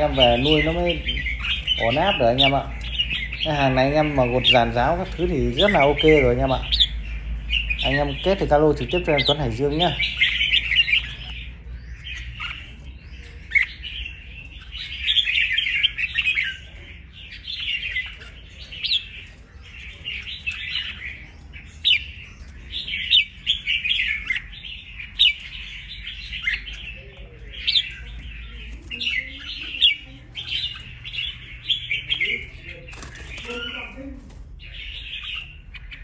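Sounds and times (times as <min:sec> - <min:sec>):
bird singing warbled phrases: 0:00.0 - 0:36.0.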